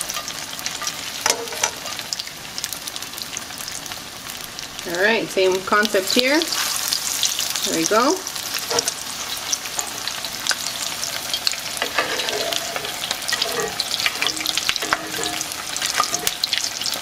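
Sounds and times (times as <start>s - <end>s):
potato cakes sizzling in oil: 0.0s - 17.0s.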